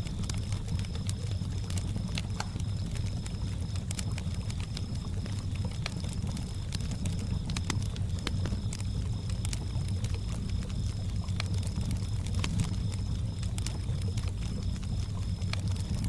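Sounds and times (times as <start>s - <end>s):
campfire crackling and popping: 0.0s - 16.0s
crickets chirping: 0.0s - 16.0s.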